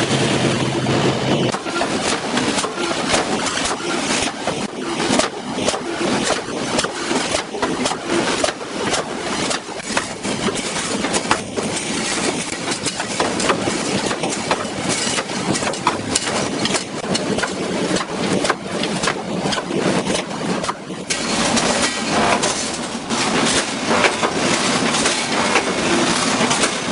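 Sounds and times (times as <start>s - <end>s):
welding machine running: 0.0s - 26.9s
machine clicks and clanks: 1.4s - 26.9s.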